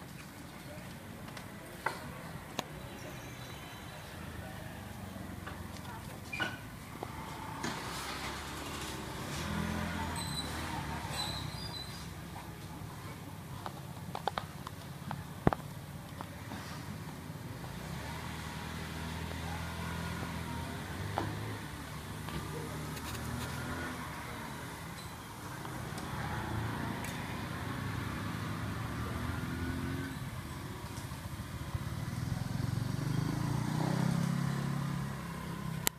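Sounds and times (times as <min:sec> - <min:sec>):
vehicle engines passing: 0:00.5 - 0:35.9.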